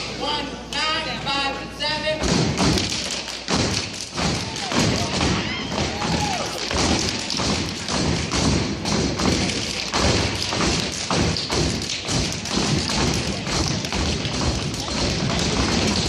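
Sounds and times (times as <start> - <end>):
rhythmic stomping feet on stage: 2.2 - 16.0.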